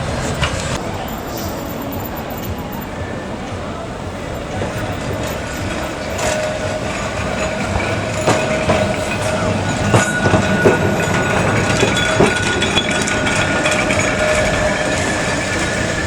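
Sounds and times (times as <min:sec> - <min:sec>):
electric tram humming: 0:00.0 - 0:16.0
wheels knocking over rail joints: 0:00.0 - 0:16.0.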